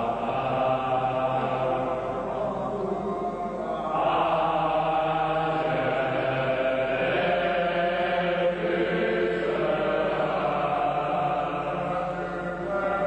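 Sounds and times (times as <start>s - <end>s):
slow chant in held notes: 0.0s - 13.0s.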